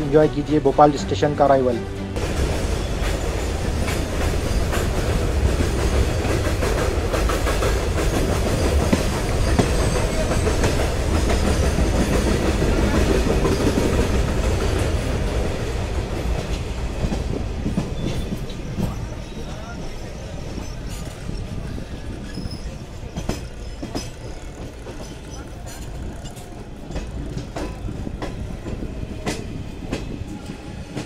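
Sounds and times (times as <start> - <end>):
train coach rumble: 0.0 - 31.0
train wheels clickety-clack: 2.2 - 31.0.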